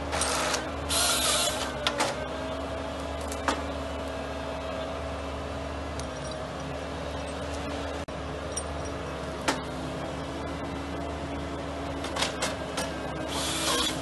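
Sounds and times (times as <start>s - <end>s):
engine and hydraulics running: 0.0s - 14.0s.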